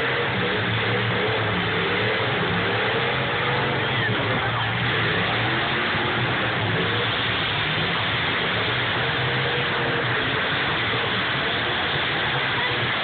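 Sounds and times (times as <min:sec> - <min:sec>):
many car engines running: 0:00.0 - 0:13.0.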